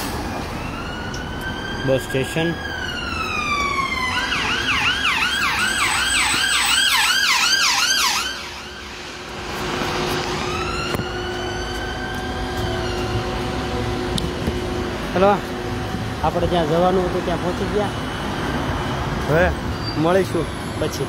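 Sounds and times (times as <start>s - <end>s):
emergency vehicle siren: 0.0s - 21.0s.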